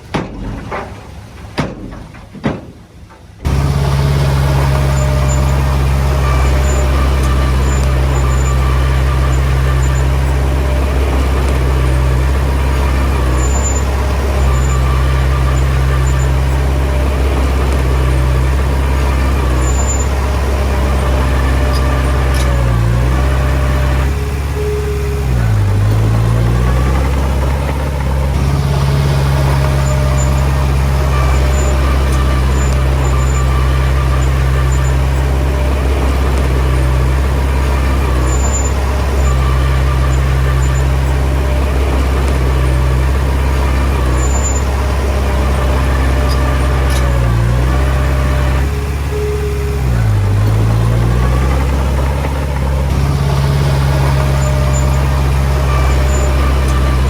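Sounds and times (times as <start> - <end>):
heavy diesel engine running: 2.9 - 57.0.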